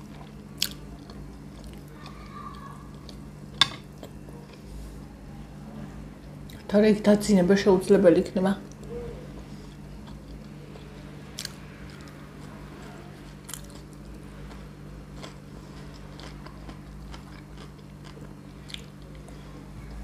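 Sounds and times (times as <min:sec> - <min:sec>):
person chewing food: 0:00.0 - 0:05.0, 0:08.7 - 0:20.0
steady low hum: 0:00.0 - 0:20.0.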